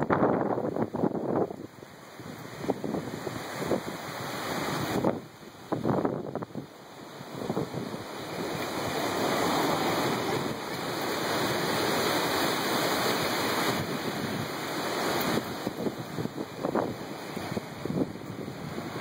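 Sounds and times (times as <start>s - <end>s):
strong wind gusting: 0.0s - 19.0s
wind buffeting microphone: 0.0s - 19.0s.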